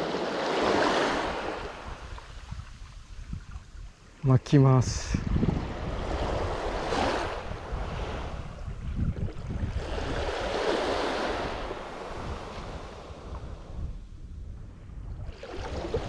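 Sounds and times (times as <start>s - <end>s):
small waves washing on sand: 0.0s - 4.2s, 4.9s - 13.8s, 15.3s - 16.0s
wind rumbling on microphone: 0.0s - 16.0s.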